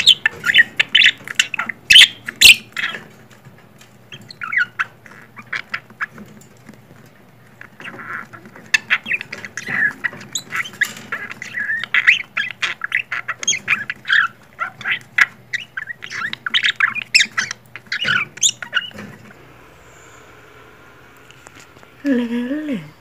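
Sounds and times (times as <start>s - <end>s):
birds squawking and chattering: 0.0s - 6.8s, 7.4s - 23.0s.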